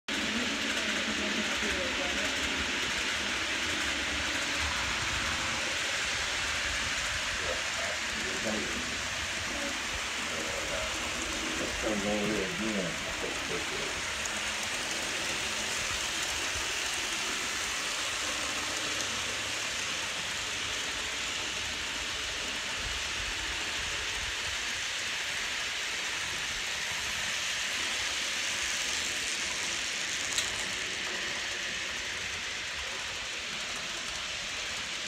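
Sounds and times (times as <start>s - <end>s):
model train cars rolling on track: 0.1s - 35.0s.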